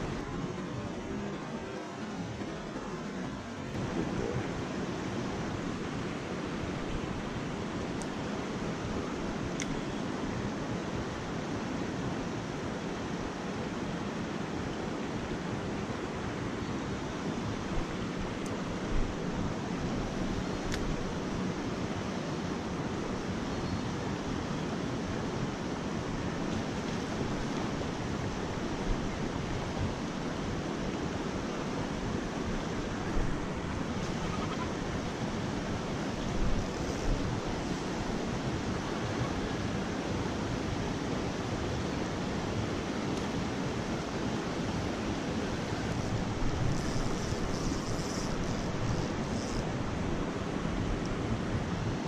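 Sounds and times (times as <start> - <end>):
river water flowing: 0.0 - 52.0.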